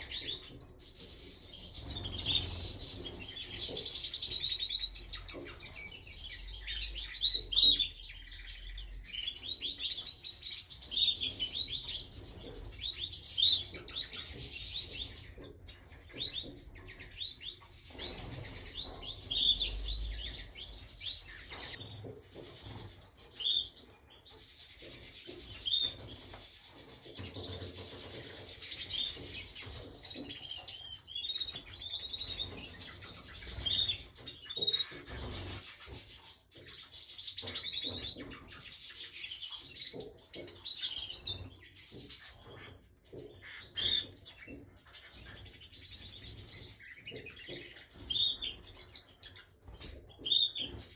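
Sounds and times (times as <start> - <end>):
canary singing: 0.0 - 50.9.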